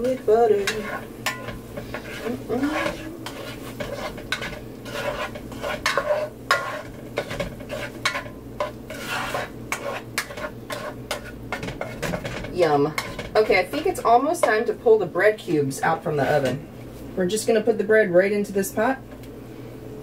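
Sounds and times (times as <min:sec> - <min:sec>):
butter sizzling: 0:00.0 - 0:16.4
spatula scraping pan: 0:00.0 - 0:16.6.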